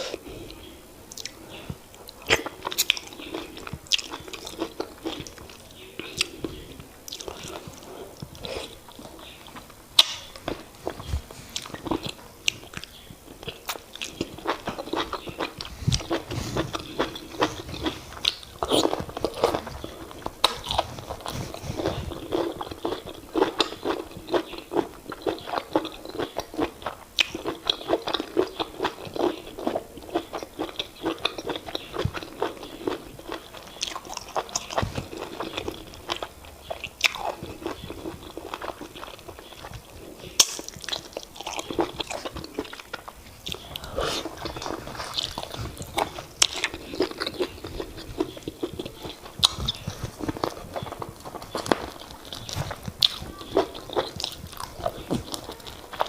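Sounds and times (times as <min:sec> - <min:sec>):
person chewing with wet smacks: 0:00.0 - 0:56.0.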